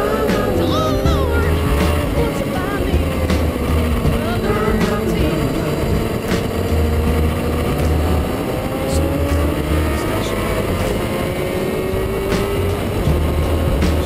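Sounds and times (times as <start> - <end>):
motorcycle engine at speed: 0.0 - 14.0.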